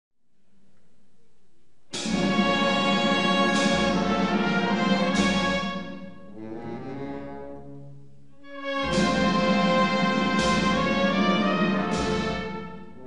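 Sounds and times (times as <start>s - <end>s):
wind band playing a march: 2.0s - 13.0s.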